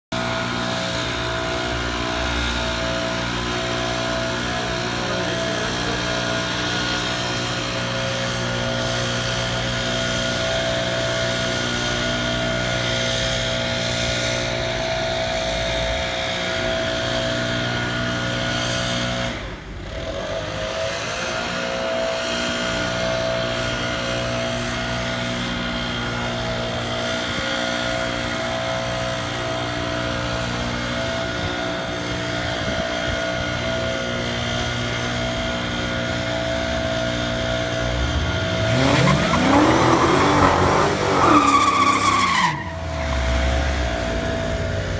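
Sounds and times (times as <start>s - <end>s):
engines droning: 0.1s - 44.9s.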